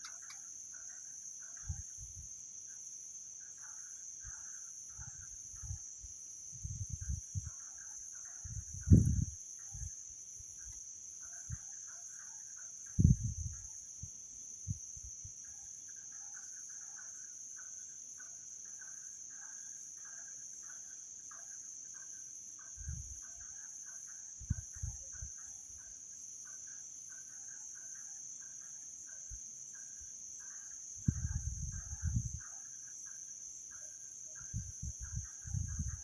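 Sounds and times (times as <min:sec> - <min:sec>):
crickets trilling: 0:00.0 - 0:36.0
faint insect chirps: 0:00.0 - 0:36.0.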